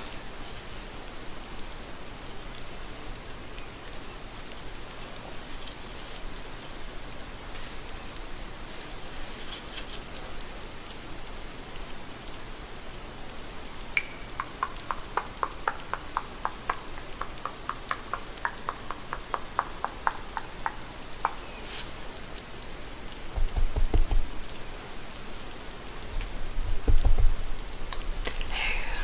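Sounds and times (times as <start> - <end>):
light ticks: 0.0 - 29.0
steady rain: 0.0 - 29.0.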